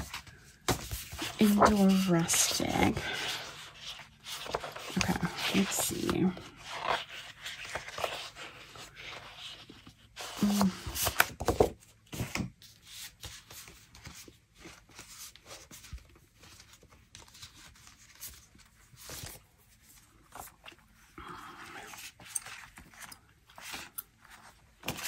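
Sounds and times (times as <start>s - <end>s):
paper sheets rustling: 0.0s - 20.7s.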